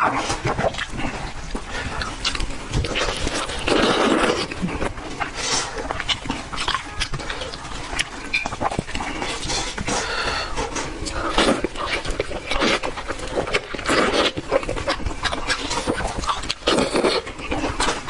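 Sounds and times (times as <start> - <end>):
chewing and gnawing: 0.0 - 18.0
slurp: 0.0 - 18.0.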